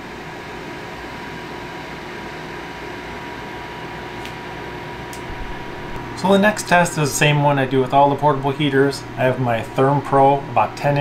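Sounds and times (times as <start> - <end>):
space heater fan whoosh: 0.0 - 11.0.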